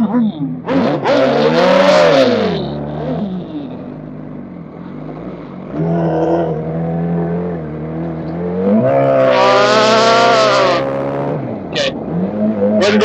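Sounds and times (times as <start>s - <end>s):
motorcycle engine accelerating: 0.6s - 13.0s.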